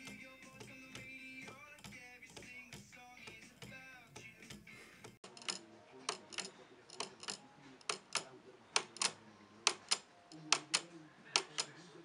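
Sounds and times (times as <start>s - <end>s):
wooden pendulum clock ticking: 0.0s - 11.7s.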